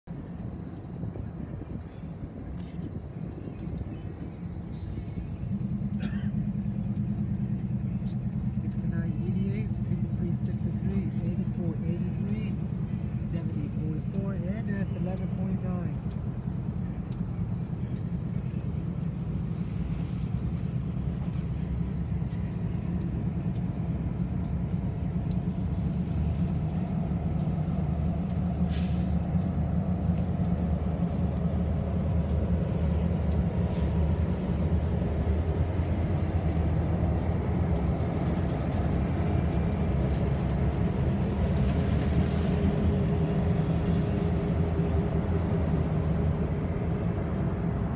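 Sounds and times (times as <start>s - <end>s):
locomotive engine drone: 0.0s - 47.9s.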